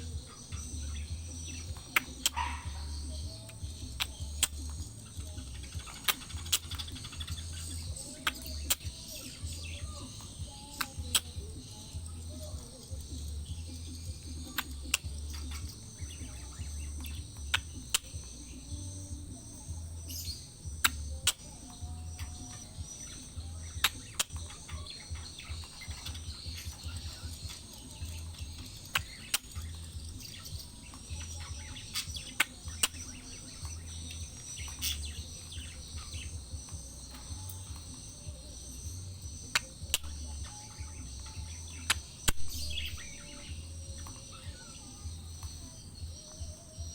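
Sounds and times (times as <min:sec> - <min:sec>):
high-pitched insect drone: 0:00.0 - 0:46.9
parakeets calling: 0:00.0 - 0:46.9.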